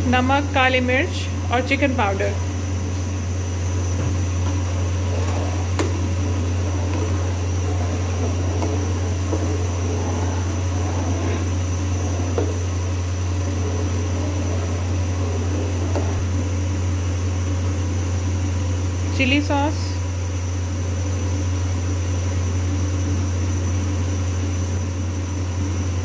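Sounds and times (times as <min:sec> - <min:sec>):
low hum of fan-like machine: 0:00.0 - 0:26.0.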